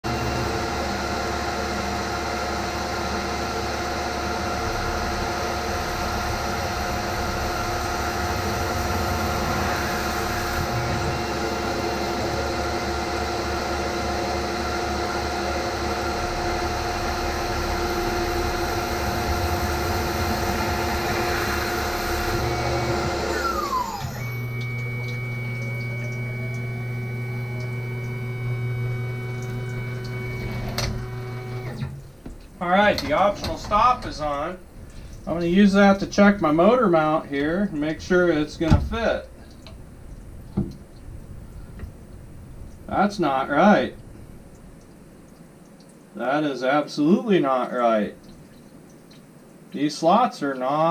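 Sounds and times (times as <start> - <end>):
spindle winding down whine: 0.0 - 46.1
mill spindle tone: 0.0 - 46.2
machine hum: 0.0 - 49.8.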